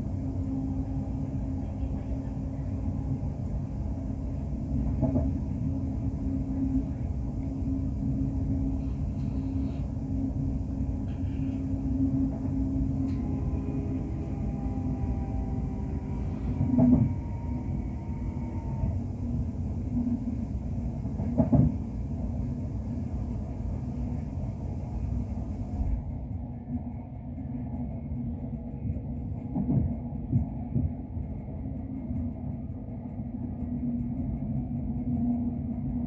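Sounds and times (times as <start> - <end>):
faint whine: 0.0 - 29.4
train cabin low rumble: 0.0 - 36.0.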